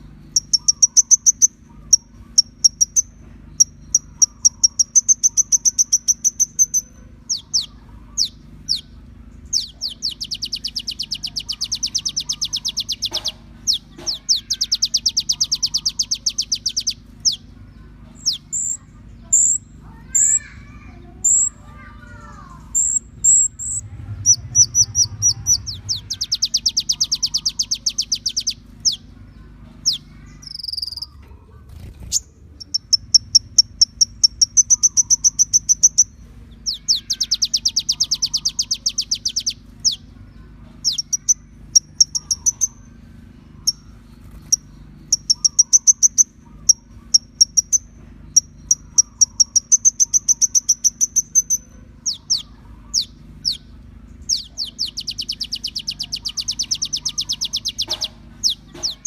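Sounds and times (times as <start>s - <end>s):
bird chirps and buzzy trills: 0.0s - 59.0s
faint low hum: 0.0s - 59.0s.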